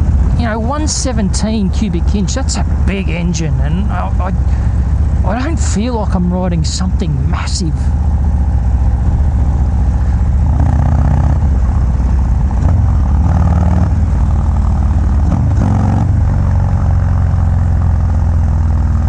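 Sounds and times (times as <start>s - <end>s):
motorcycle engine running loud: 0.0s - 19.0s.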